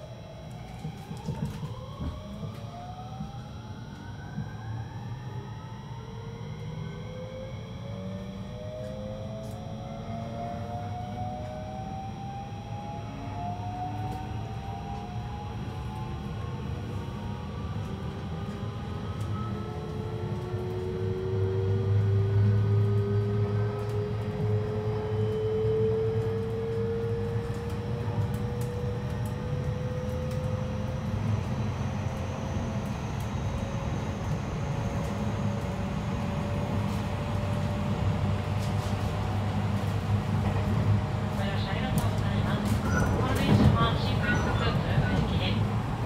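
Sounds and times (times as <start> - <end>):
low rumble of motors and wheels: 0.0 - 46.0
train inverter whine rising: 0.0 - 46.0.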